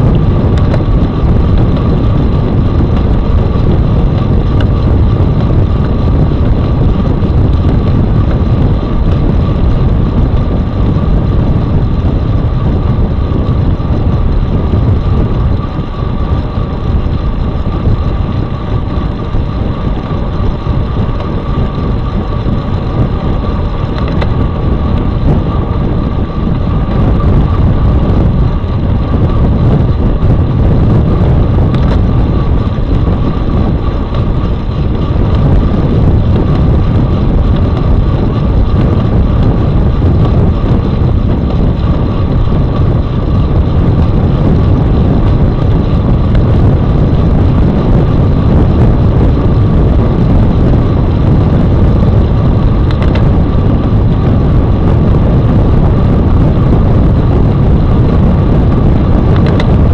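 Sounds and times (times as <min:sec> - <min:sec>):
road rumble from bike: 0:00.0 - 0:59.9
thin steady whine: 0:00.0 - 0:59.9
wind rushing over microphone: 0:00.0 - 0:59.9.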